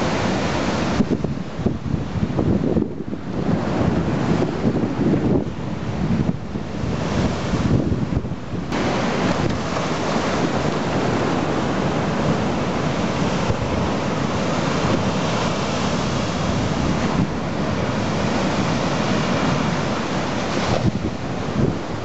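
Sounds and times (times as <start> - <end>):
storm waves crashing: 0.0 - 22.0.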